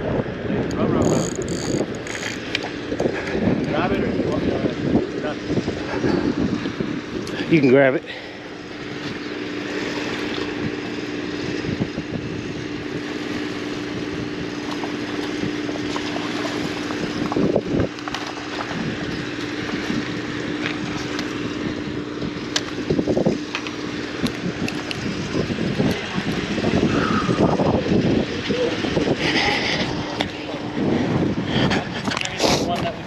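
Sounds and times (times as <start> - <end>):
wind on microphone: 0.0 - 7.7, 8.6 - 33.0
engine hum: 0.0 - 33.0.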